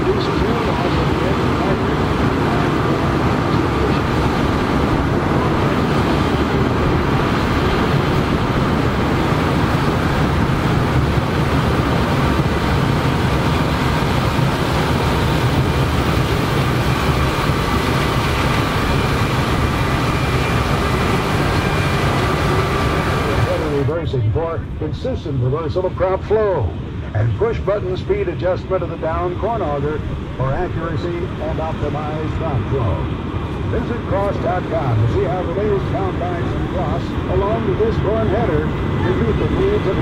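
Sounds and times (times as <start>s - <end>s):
combine harvester machinery din: 0.0s - 40.0s.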